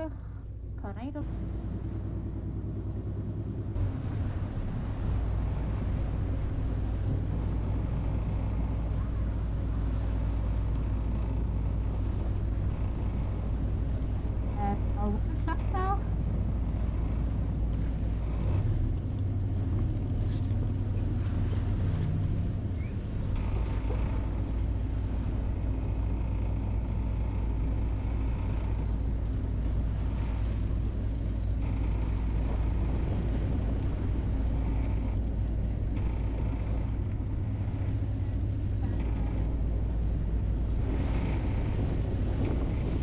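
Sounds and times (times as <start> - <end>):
boat engine rumbling: 0.0 - 43.0.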